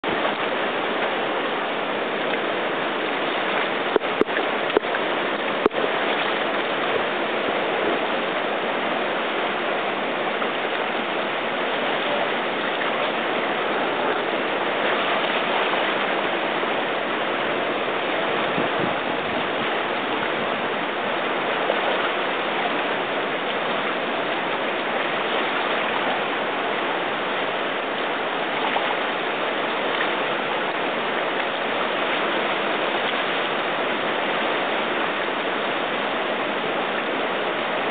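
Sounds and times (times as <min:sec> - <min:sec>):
river rapid rushing: 0:00.0 - 0:37.9.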